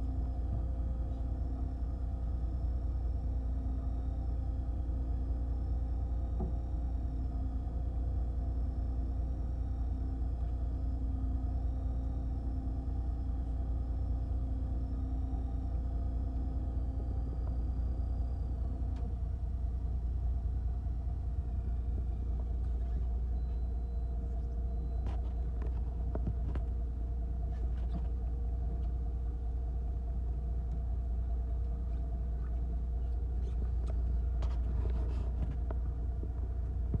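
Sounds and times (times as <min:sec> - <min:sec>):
boat engine running: 0:00.0 - 0:37.0.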